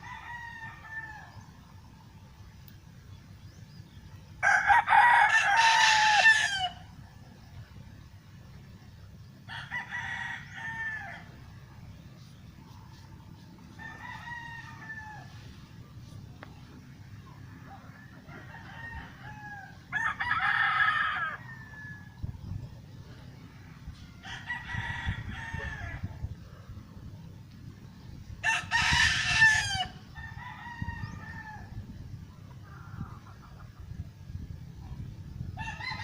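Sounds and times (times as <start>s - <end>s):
roosters crowing: 0.0s - 2.3s, 4.2s - 7.6s, 9.1s - 36.0s.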